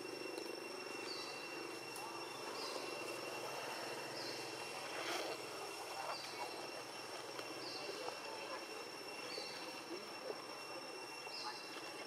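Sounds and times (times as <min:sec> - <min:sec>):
low hum: 0:00.0 - 0:12.0
steady high whines: 0:00.0 - 0:12.0.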